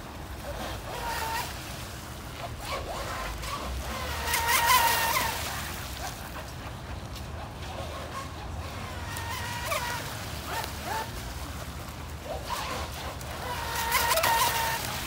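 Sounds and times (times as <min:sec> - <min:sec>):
model boat motor whining: 0:00.0 - 0:15.0.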